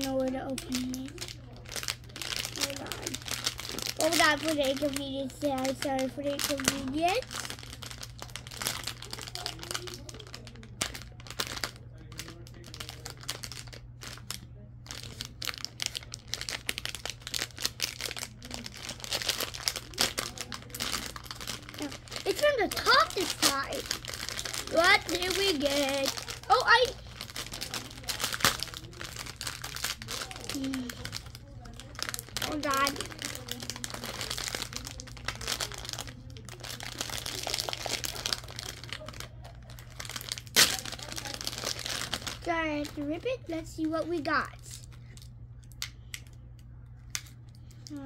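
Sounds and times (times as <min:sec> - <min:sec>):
plastic bag crinkling: 0:00.0 - 0:46.4.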